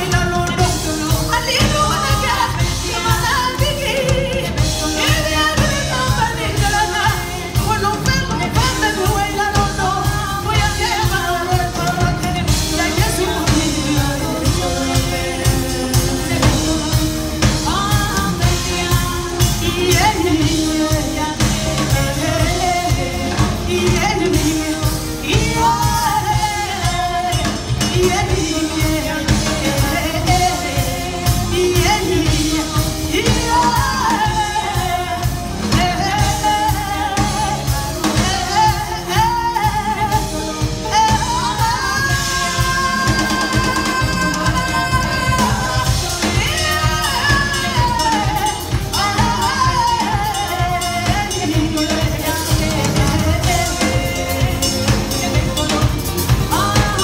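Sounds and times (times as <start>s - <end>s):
drum kit steady beat: 0.0s - 57.0s
live band playing: 0.0s - 57.0s
woman singing lead: 0.0s - 57.0s.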